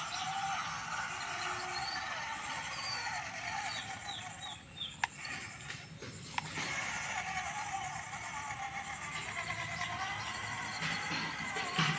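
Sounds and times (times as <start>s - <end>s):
toy gear motor whining: 0.0s - 11.9s.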